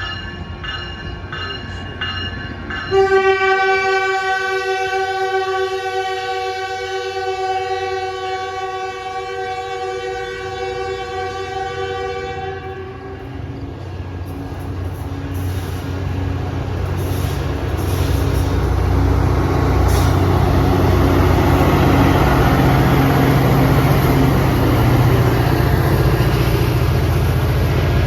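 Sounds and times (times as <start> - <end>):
diesel train engine rumble: 0.0 - 28.0.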